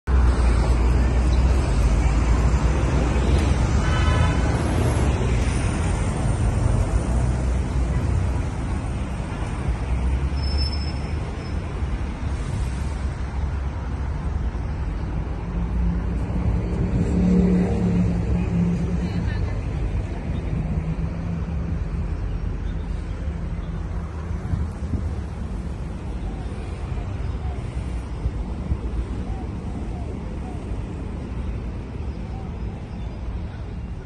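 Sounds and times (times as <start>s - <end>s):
low city rumble: 0.1s - 34.0s.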